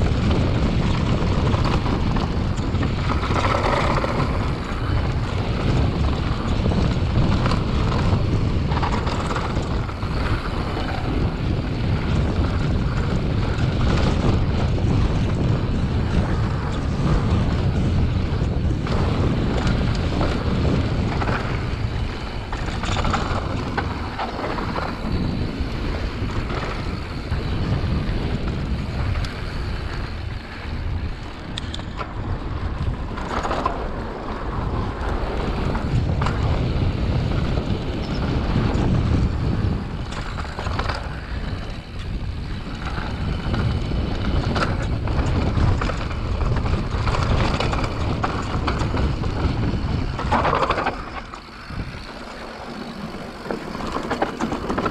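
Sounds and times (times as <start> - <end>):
bike knocks and rattles: 0.0 - 54.9
bike tyres rolling on dirt: 0.0 - 54.9
wind rushing over microphone: 0.0 - 54.9.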